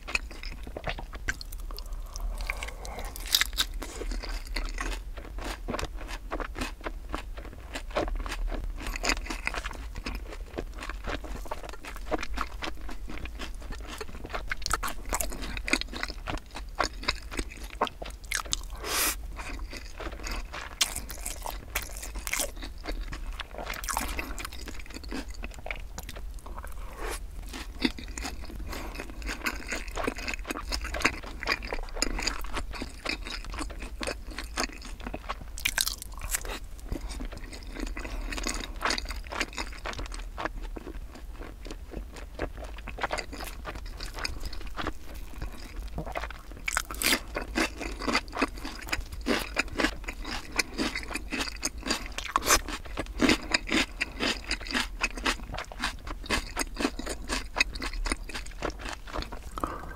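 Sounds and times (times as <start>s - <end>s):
chewing crunchy chicken: 0.0s - 59.9s.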